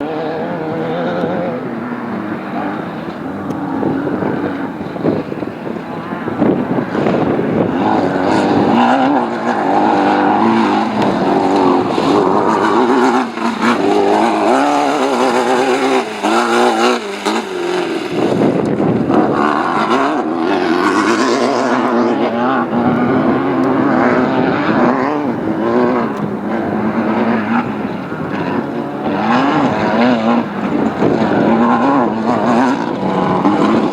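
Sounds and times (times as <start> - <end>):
race car engine revving: 0.0 - 33.9.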